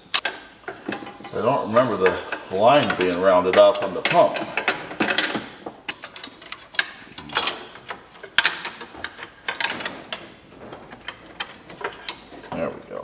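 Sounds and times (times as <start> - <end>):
hand tools clicking on metal: 0.0 - 13.0.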